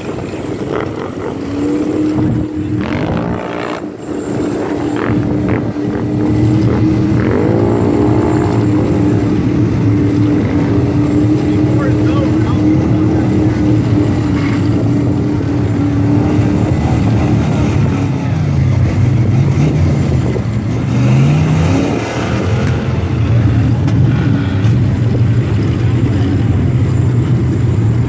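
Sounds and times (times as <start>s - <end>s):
truck engine working hard: 0.0s - 28.0s.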